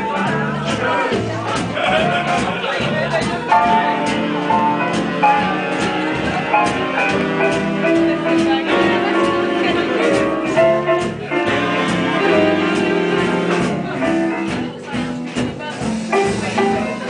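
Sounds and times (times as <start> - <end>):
swing jazz band playing: 0.0 - 17.0.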